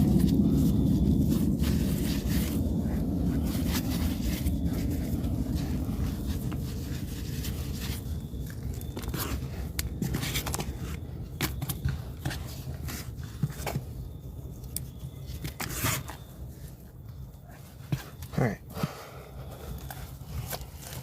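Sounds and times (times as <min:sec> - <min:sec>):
soil scraping and crackling: 0:00.0 - 0:16.8, 0:19.4 - 0:21.0.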